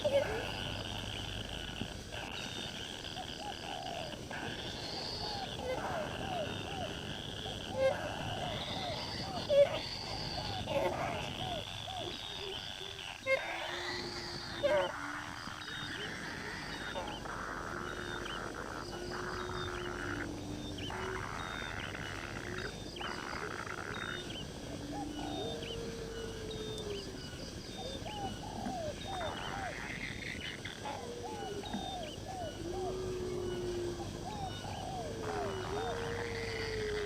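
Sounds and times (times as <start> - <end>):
buzzing hiss: 0.0 - 37.0
low animal calls: 0.0 - 37.0.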